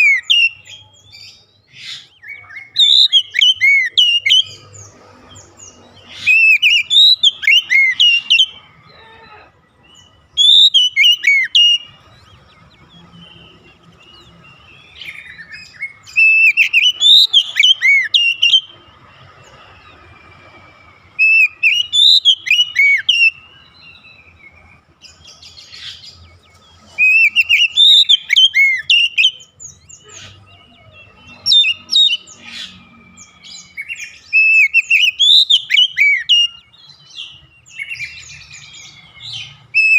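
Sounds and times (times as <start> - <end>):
bird singing whistled notes: 0.0 - 8.9, 9.7 - 39.9.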